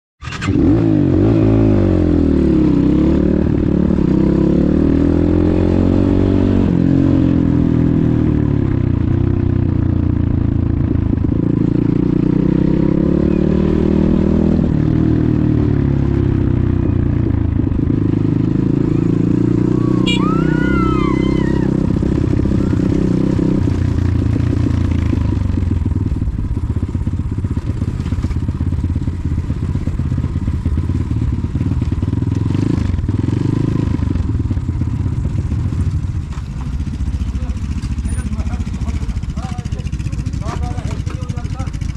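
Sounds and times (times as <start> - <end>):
motorcycle engine revving: 0.2 - 41.9.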